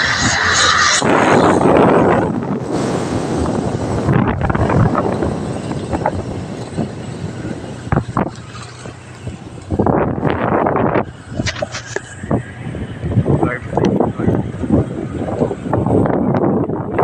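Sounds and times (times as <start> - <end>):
wind rushing over microphone: 0.0 - 17.0
motorcycle engine running: 1.0 - 17.0.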